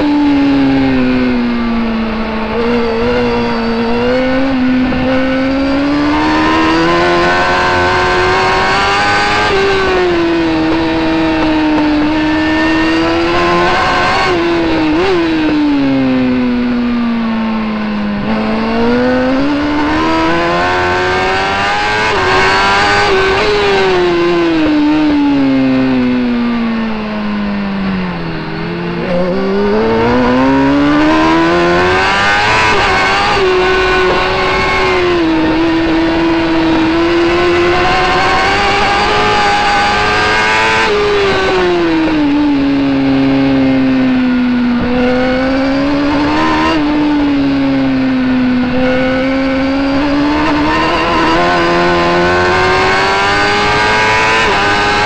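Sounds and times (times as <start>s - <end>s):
racing motorcycle engine revving: 0.0s - 55.0s.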